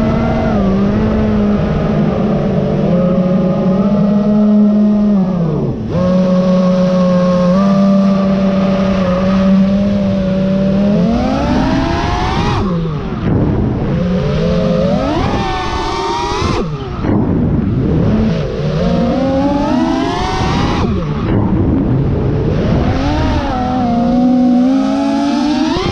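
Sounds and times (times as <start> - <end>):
drone propellers whining: 0.0 - 25.9.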